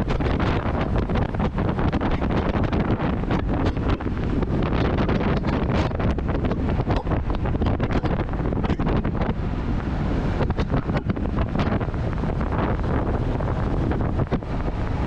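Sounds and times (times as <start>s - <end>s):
car engine and drivetrain noise: 0.0s - 15.0s
wind buffeting microphone: 0.0s - 15.0s.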